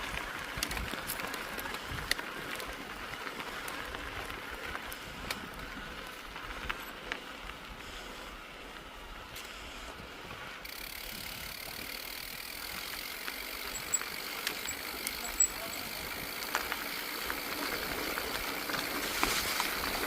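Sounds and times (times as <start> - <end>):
bike tyres on rough trail: 0.0 - 20.0.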